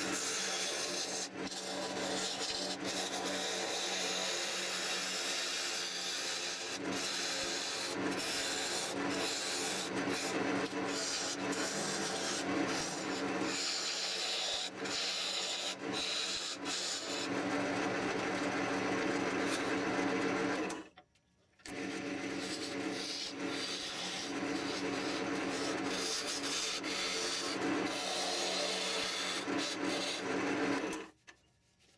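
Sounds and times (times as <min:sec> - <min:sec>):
wood lathe humming: 0:00.0 - 0:20.9, 0:21.7 - 0:31.1
tool scraping spinning wood: 0:00.0 - 0:21.0, 0:21.6 - 0:31.9.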